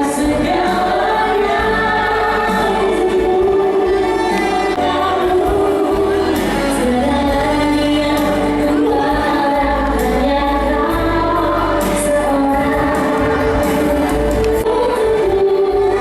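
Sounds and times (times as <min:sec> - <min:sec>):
band accompaniment: 0:00.0 - 0:16.0
people singing long notes: 0:00.0 - 0:16.0.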